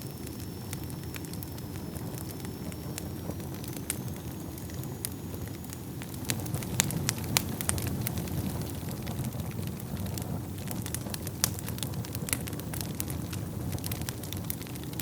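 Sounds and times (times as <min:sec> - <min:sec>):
burning wood crackling and popping: 0:00.0 - 0:15.0
fire flames rumbling: 0:00.0 - 0:15.0.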